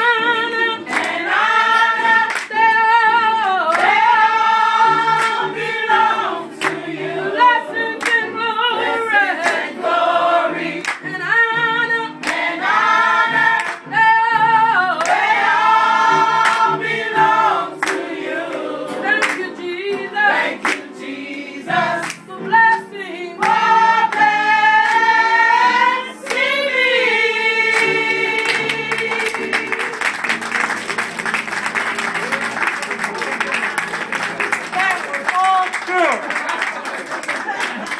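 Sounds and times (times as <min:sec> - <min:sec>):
gospel choir singing: 0:00.0 - 0:30.6.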